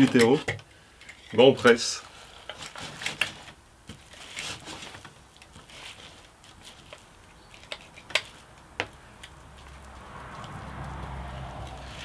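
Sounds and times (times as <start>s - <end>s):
scraping and squelching in compost: 1.2s - 12.0s.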